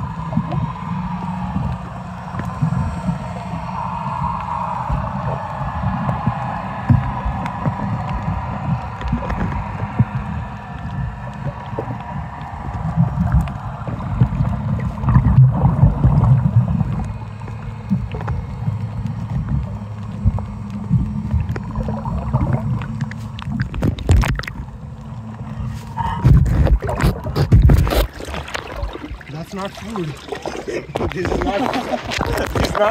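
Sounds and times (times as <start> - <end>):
underwater rumble with gurgling: 0.0 - 32.9
water splashes: 0.0 - 32.9.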